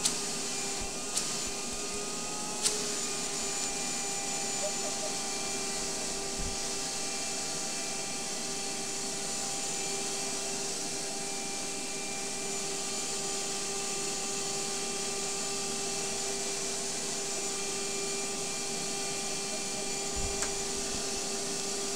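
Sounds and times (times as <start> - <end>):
vacuum cleaner running: 0.0 - 21.9.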